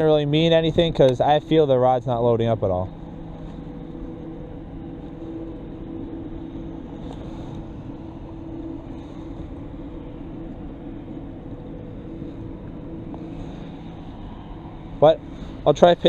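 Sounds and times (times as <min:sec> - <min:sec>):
distant industrial machinery: 0:00.0 - 0:16.0
faint hum: 0:00.0 - 0:16.0
wind: 0:00.0 - 0:16.0.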